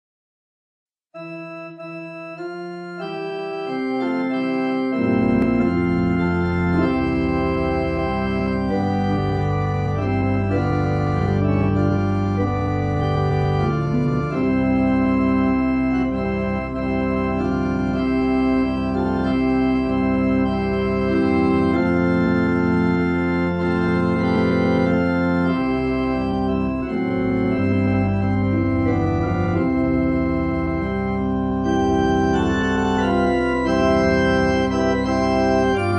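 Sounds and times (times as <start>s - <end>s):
organ playing hymn chords: 1.2s - 35.9s.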